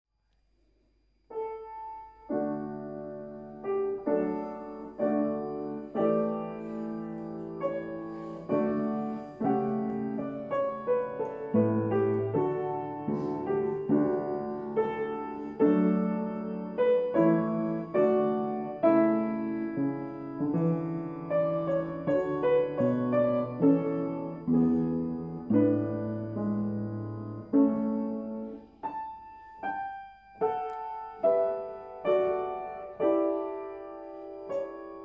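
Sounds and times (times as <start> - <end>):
solo piano slow chords: 0.2 - 35.0.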